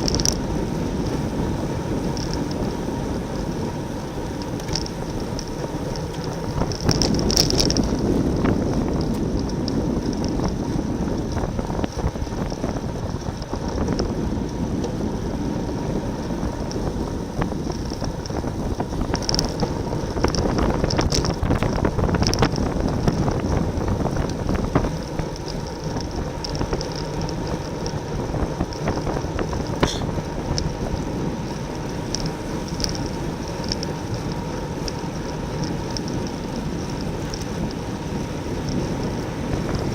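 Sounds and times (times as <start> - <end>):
road and tyre noise: 0.0 - 39.9
wind rushing over microphone: 0.0 - 39.9.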